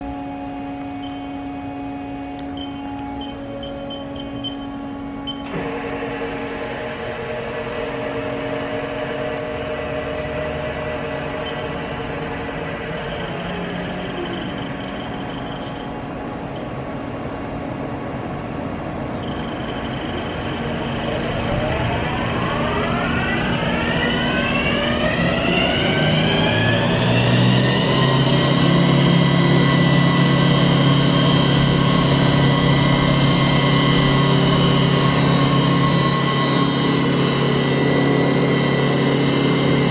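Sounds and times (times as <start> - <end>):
machine spindle whine: 0.0 - 39.9.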